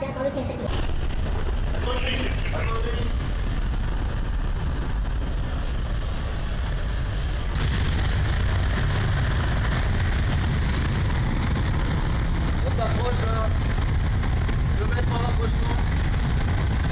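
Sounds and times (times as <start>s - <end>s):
heavy vehicle engine rumbling: 0.0s - 16.9s.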